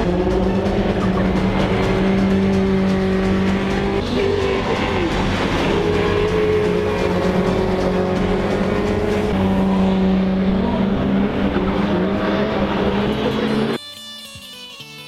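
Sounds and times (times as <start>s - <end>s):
race car engines running: 0.0s - 13.8s.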